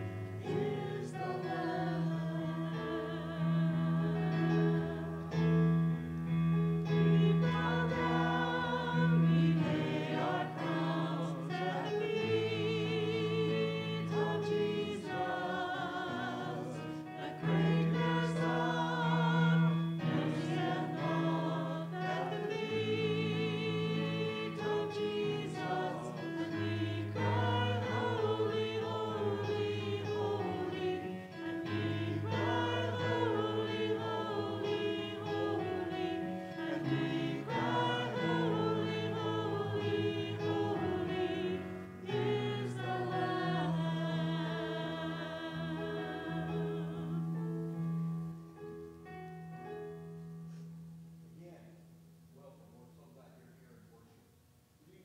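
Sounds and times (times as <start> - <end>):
voices singing a hymn in unison: 0.0 - 47.9.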